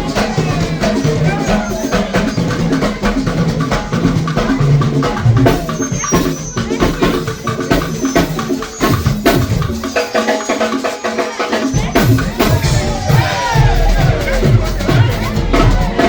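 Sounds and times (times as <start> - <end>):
bass line: 0.0 - 9.7, 11.7 - 16.0
drum kit playing a busy beat: 0.0 - 16.0.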